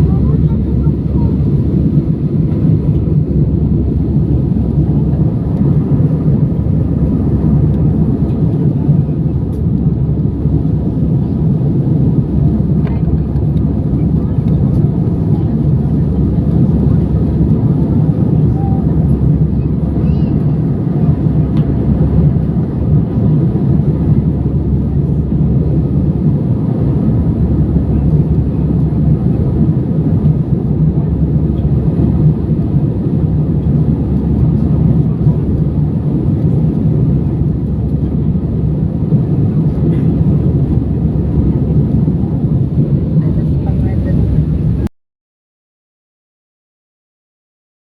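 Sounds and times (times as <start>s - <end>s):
airliner engines droning in cabin: 0.0s - 44.9s.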